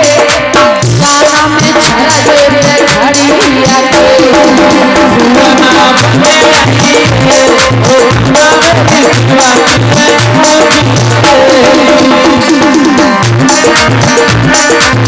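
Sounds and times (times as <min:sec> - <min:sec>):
hand-drum beat: 0:00.0 - 0:15.0
rattling percussion: 0:00.0 - 0:15.0.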